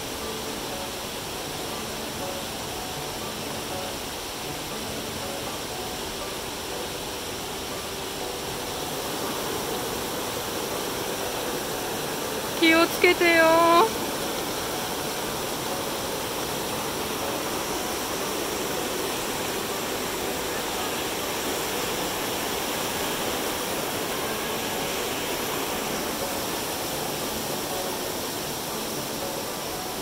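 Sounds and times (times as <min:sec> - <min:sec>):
mountain stream rushing over boulders: 0:00.0 - 0:30.0.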